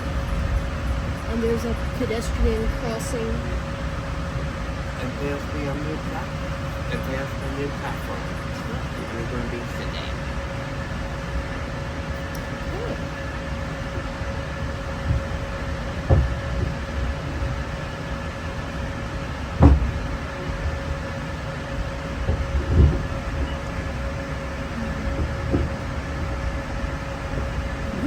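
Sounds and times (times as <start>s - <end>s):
train coach hum and rumble: 0.0s - 28.0s.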